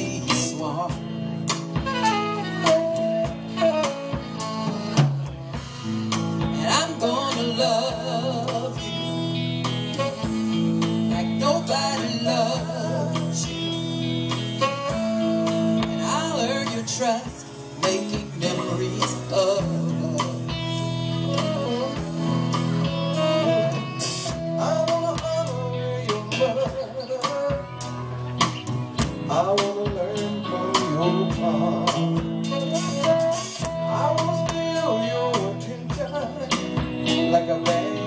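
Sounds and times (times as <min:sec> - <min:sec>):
person singing: 0:00.0 - 0:05.0, 0:05.9 - 0:38.0
electric guitar: 0:00.0 - 0:38.0
keyboard: 0:00.0 - 0:38.0
steady drum beat: 0:00.0 - 0:38.0.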